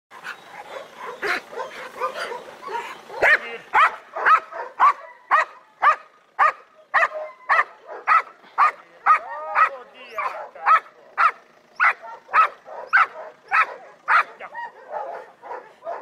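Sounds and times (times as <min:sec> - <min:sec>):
dog yipping and whining: 0:00.2 - 0:08.3, 0:09.1 - 0:16.0
dog barking: 0:00.5 - 0:16.0.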